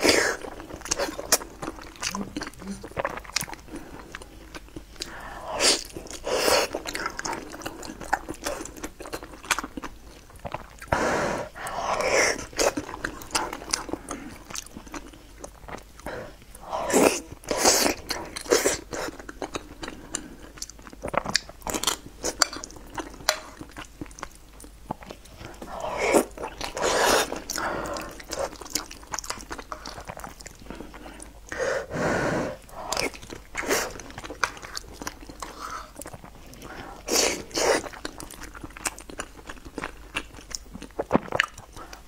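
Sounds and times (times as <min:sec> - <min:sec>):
wet chewing and mouth smacks: 0:00.3 - 0:05.2, 0:05.8 - 0:11.0, 0:17.0 - 0:31.6, 0:32.7 - 0:42.0.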